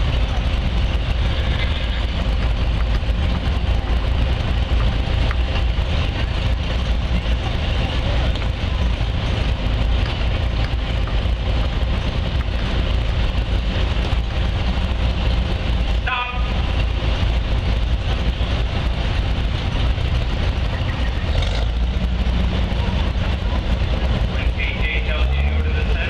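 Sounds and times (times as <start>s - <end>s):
outdoor background noise: 0.0s - 26.0s
steady low rumble: 0.0s - 26.0s.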